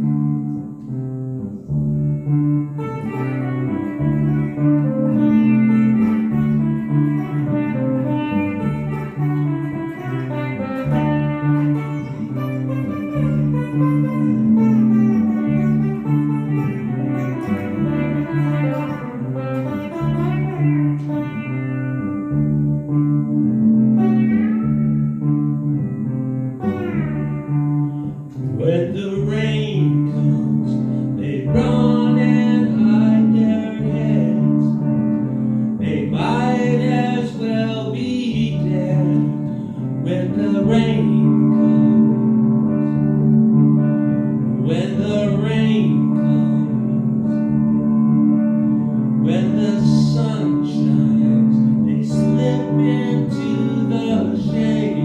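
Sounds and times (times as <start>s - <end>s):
pedal steel guitar melody: 0.0s - 55.0s.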